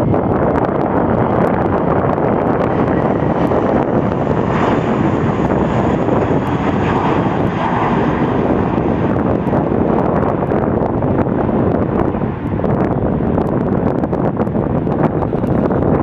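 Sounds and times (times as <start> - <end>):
aircraft engines roaring: 0.0 - 16.0.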